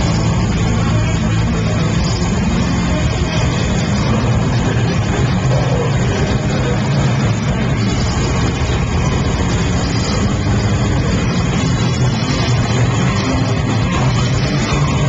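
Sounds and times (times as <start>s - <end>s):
distorted electric guitars: 0.0s - 15.0s
fast dense drumming: 0.0s - 15.0s.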